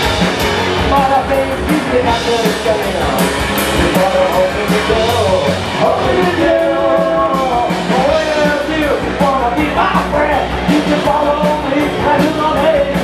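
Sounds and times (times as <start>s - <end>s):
live rock band playing: 0.0s - 13.0s
person singing: 0.8s - 13.0s.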